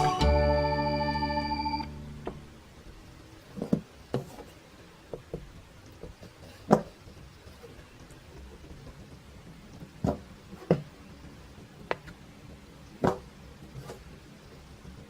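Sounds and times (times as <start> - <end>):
faint low room hum: 0.0 - 15.0.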